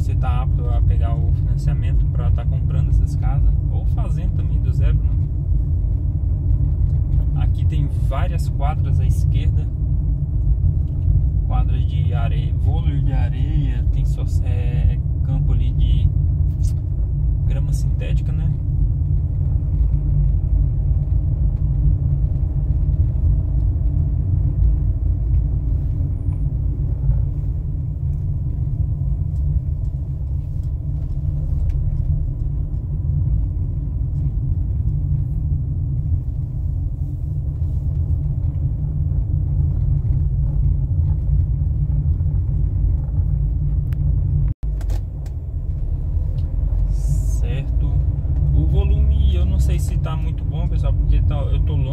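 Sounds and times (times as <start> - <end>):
car driving rumble inside cabin: 0.0 - 51.9.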